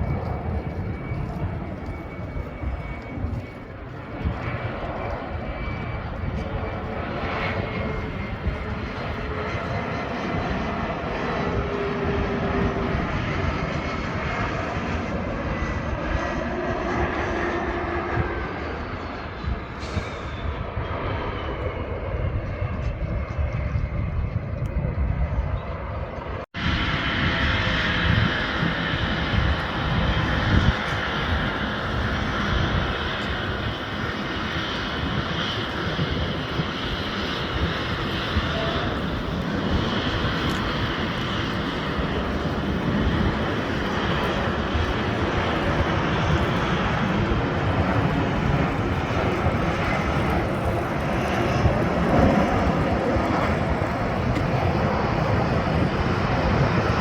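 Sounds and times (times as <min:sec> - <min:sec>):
aircraft engines running: 0:00.0 - 0:57.0.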